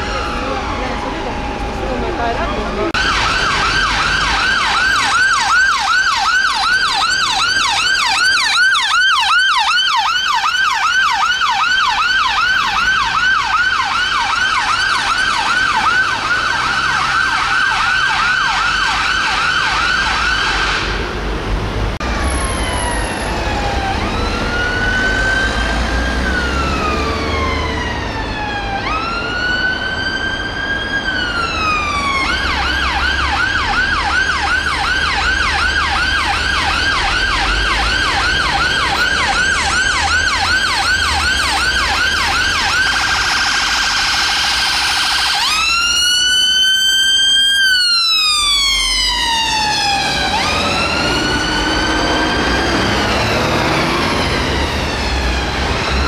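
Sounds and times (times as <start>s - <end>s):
siren rapid yelp: 0.0s - 21.0s, 22.0s - 56.0s
siren slow wail: 0.0s - 21.3s, 22.0s - 56.0s
engine and traffic rumble: 0.0s - 56.0s.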